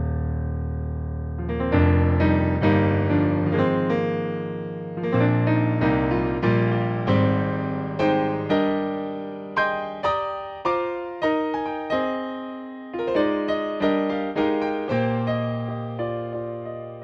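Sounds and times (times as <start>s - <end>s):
digital piano played slowly: 0.0s - 17.0s.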